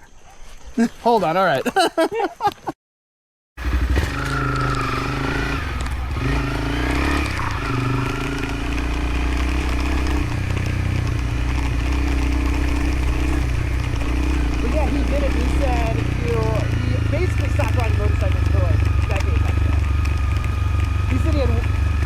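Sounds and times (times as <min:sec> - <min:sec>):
motorcycle engine running: 0:03.6 - 0:22.0
wind and road noise: 0:03.6 - 0:22.0.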